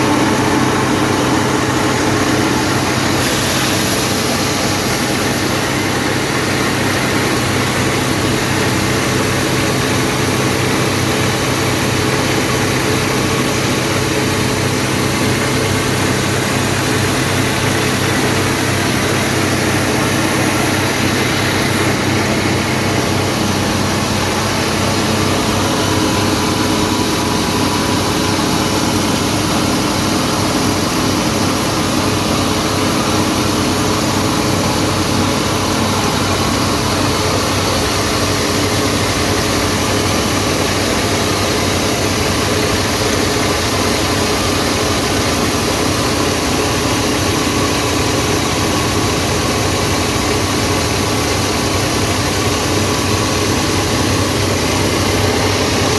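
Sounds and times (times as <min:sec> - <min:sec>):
grain cleaning machine droning: 0:00.0 - 0:55.9.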